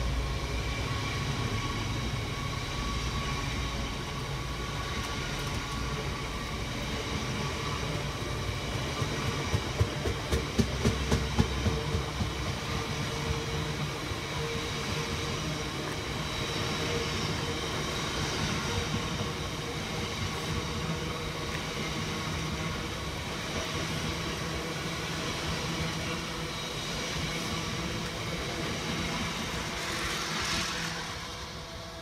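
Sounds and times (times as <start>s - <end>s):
freight train rumbling past: 0.0s - 32.0s
wheels rattling on rail: 0.0s - 32.0s.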